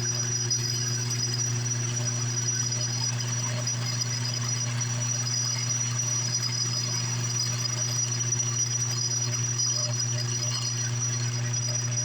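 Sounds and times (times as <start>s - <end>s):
metal lathe humming and whining: 0.0s - 12.0s.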